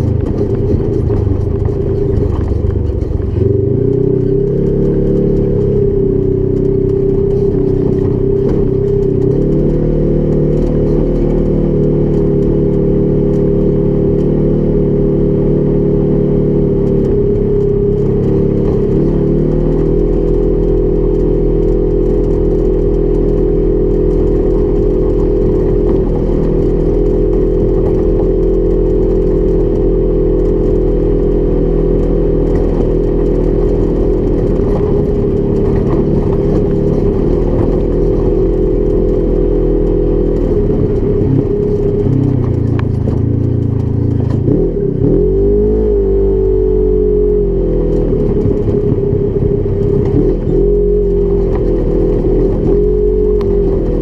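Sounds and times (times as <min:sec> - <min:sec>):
engine running while driving: 0:00.0 - 0:54.0.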